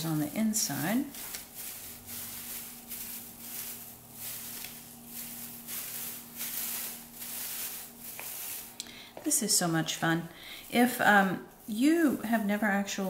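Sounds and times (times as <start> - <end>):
shredded newspaper rustling: 0.0 - 13.0.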